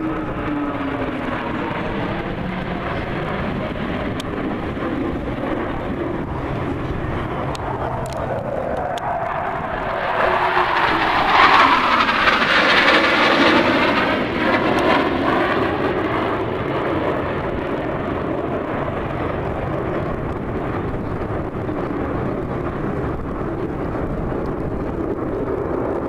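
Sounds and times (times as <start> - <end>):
airplane engine drone: 0.0 - 26.0.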